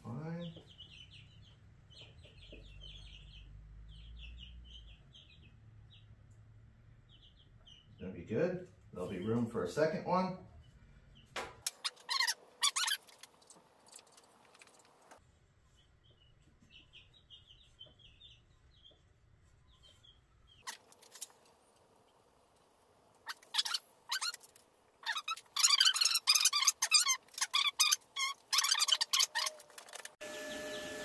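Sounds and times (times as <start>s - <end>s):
baby chicks peeping: 0.0s - 21.4s, 23.2s - 31.0s.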